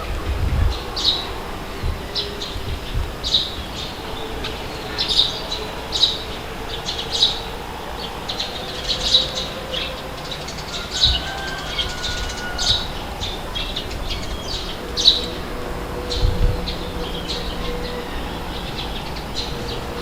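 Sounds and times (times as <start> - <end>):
birds giving sharp calls: 0.0 - 20.0
low gusty rumbles: 0.0 - 20.0
wind rushing: 0.0 - 20.0.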